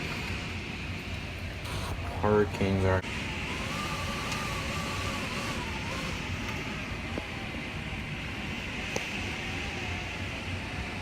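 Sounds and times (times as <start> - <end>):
wind and rain rushing: 0.0 - 11.0.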